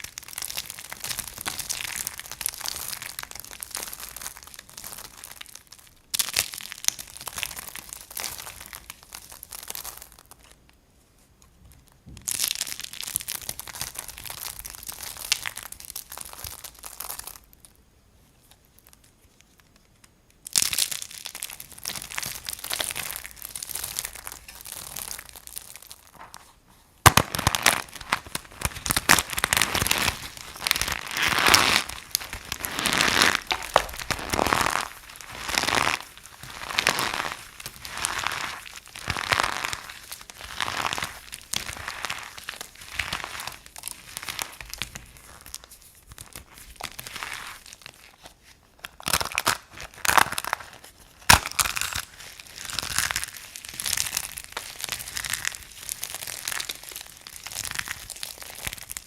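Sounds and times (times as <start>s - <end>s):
dry soap crunching: 0.0s - 10.6s, 12.2s - 17.7s, 19.6s - 59.0s.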